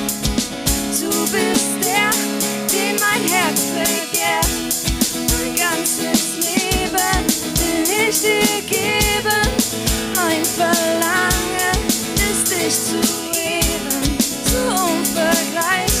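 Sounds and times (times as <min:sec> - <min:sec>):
drum kit beat: 0:00.0 - 0:16.0
gliding melodic lead line: 0:00.0 - 0:16.0
pop worship song with band: 0:00.0 - 0:16.0.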